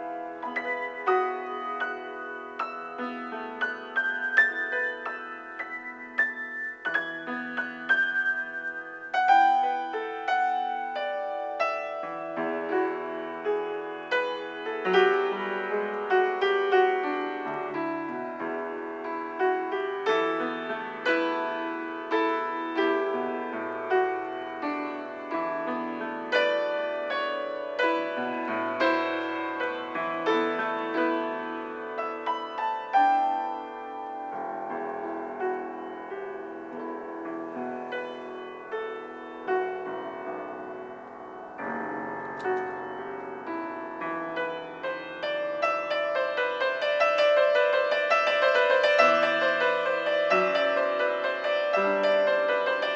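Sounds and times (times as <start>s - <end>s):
solo piano improvisation: 0.0s - 52.9s.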